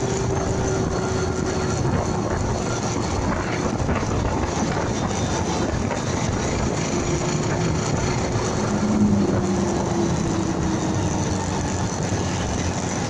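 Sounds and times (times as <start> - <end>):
motorcycle engine: 0.0 - 13.0
wind and road noise: 0.0 - 13.0.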